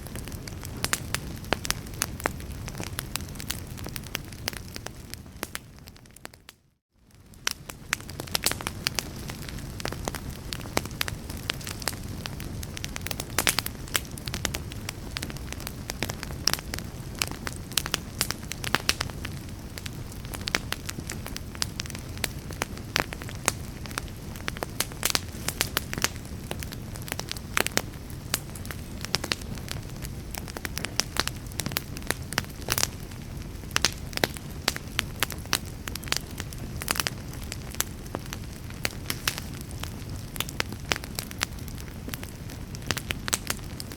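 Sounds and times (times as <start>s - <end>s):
fire snapping and popping: 0.0s - 43.9s
wood fire burning: 0.0s - 43.9s.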